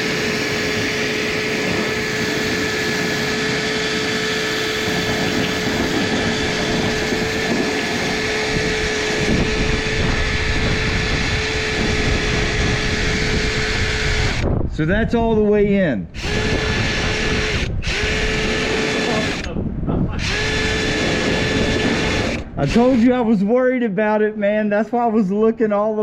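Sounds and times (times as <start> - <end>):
motor whine: 0.0 - 14.8, 16.1 - 23.2
rushing air: 0.0 - 15.4, 16.1 - 23.2
deep rumble: 0.0 - 23.2.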